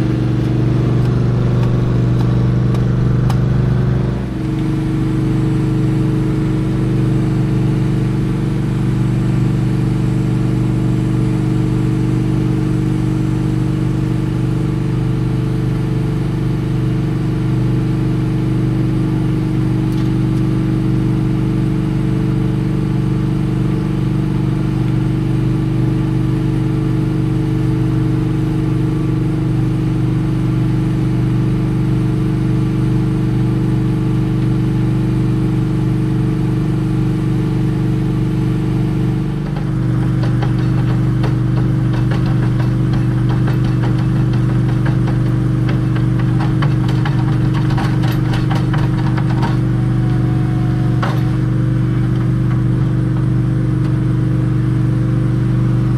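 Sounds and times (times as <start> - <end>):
engine droning steadily: 0.0 - 55.9.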